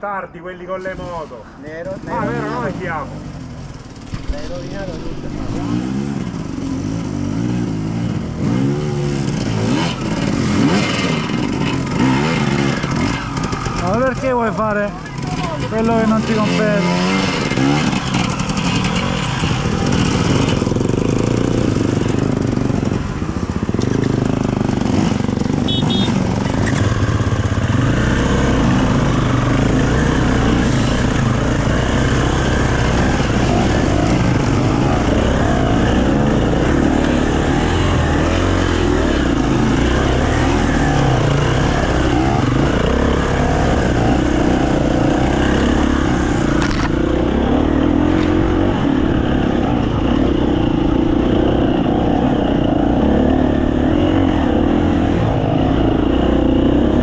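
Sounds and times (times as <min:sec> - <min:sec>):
dirt bike engine revving: 0:02.0 - 0:57.0.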